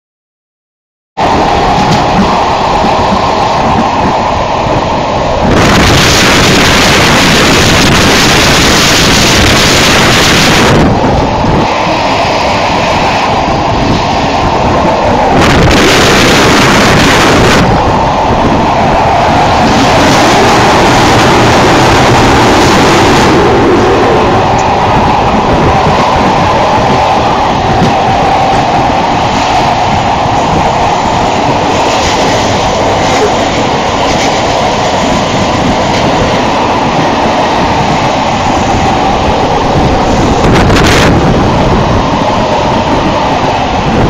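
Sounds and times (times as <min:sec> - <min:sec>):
train rumble and rattle: 0:01.2 - 0:44.0
wind rushing on microphone: 0:01.2 - 0:44.0.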